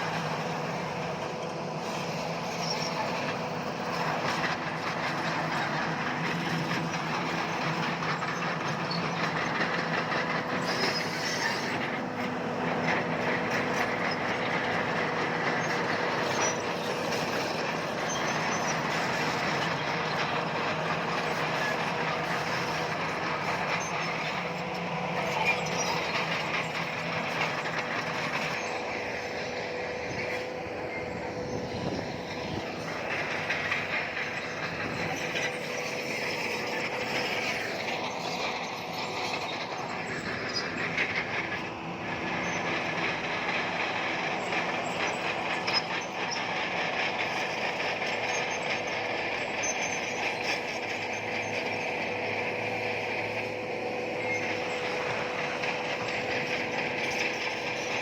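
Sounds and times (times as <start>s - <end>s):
bulldozer diesel engine: 0.0s - 58.0s
steel tracks clattering: 0.0s - 58.0s.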